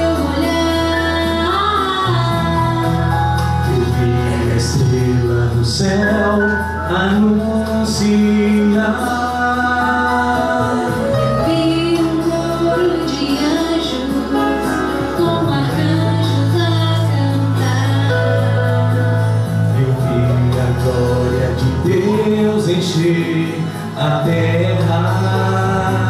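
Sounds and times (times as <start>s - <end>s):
long held bass notes: 0.0s - 26.0s
person singing: 0.0s - 26.0s.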